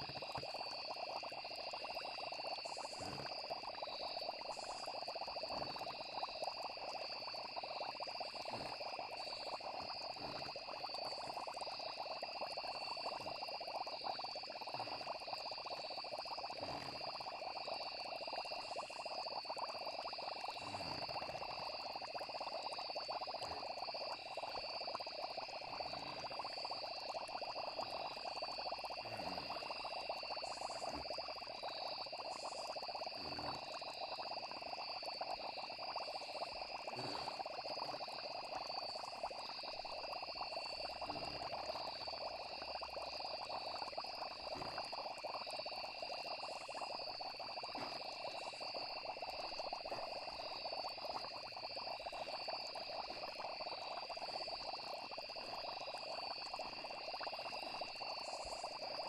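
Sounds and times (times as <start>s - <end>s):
crickets trilling: 0.0s - 59.0s
frogs croaking: 0.0s - 59.0s.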